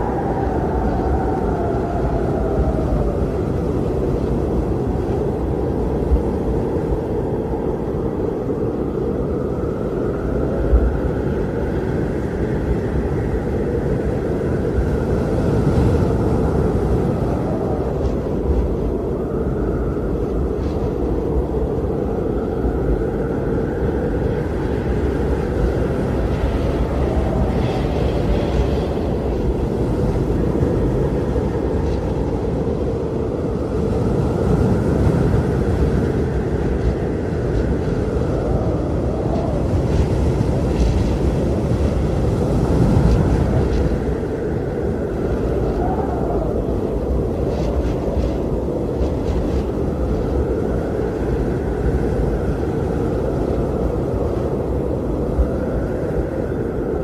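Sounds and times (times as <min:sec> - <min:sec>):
blizzard wind blowing: 0:00.0 - 0:57.0
low wind gusts: 0:00.0 - 0:57.0.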